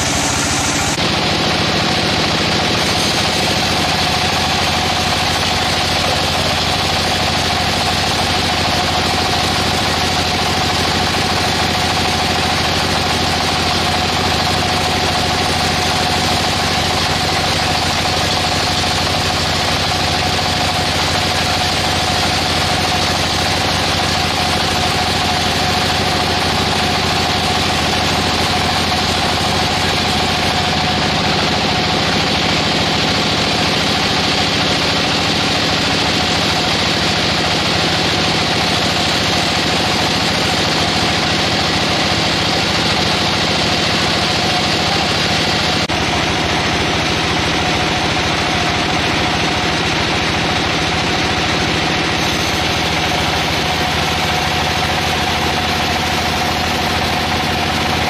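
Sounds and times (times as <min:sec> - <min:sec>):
sawmill machine droning: 0:00.0 - 0:58.0.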